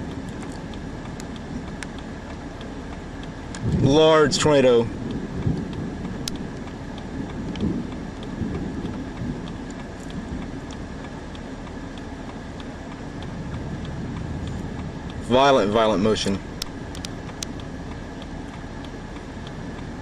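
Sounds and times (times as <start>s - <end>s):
faint ticks: 0.0s - 3.9s, 5.0s - 15.2s, 16.2s - 20.0s
storm wind and rain: 0.0s - 20.0s.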